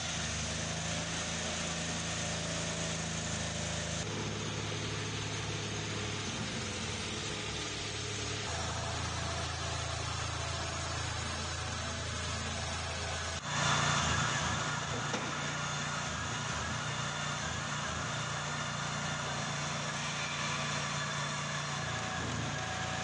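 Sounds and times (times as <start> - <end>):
gasoline engine running: 0.0 - 23.0.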